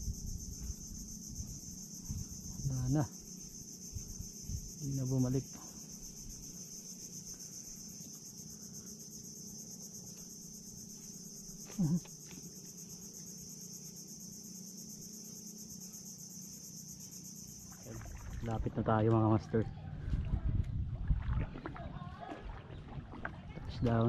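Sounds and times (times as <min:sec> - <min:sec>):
high-pitched insect chorus trilling: 0:00.0 - 0:19.6.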